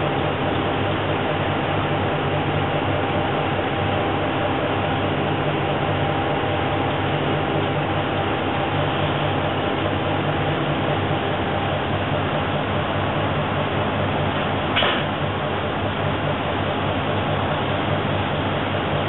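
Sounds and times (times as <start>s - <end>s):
diesel railcar engine idling: 0.0s - 19.0s.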